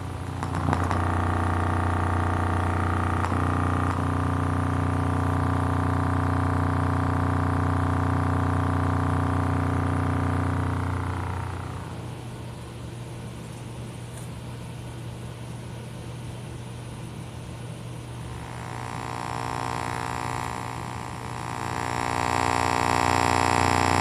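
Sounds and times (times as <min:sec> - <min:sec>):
distorted low hum from speaker: 0:00.0 - 0:24.0.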